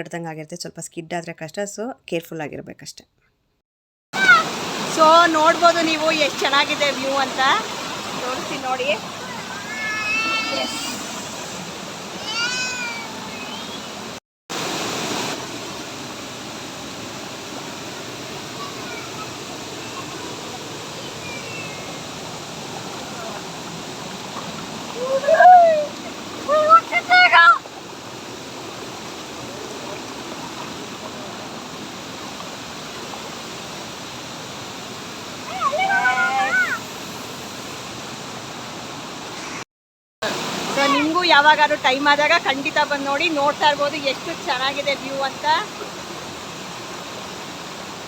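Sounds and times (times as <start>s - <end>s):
waterfall rushing: 4.2s - 39.6s, 40.2s - 48.0s.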